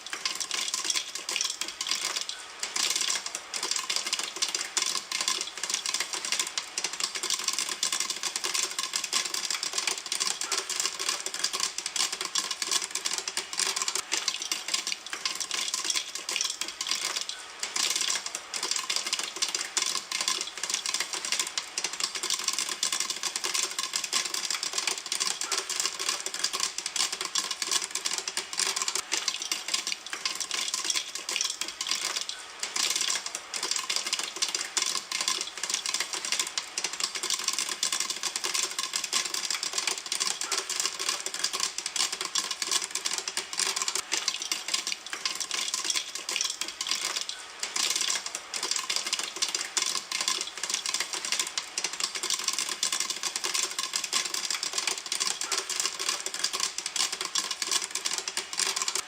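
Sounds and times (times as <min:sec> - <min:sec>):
popcorn popping in a pan: 0:00.0 - 0:59.0.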